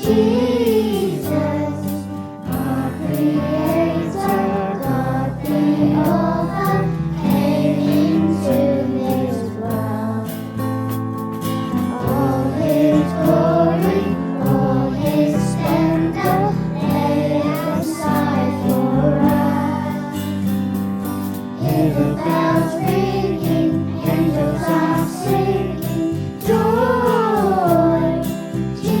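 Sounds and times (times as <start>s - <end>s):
choir singing: 0.0s - 10.6s, 11.9s - 20.6s, 21.6s - 29.0s
instrumental backing with beat: 0.0s - 29.0s.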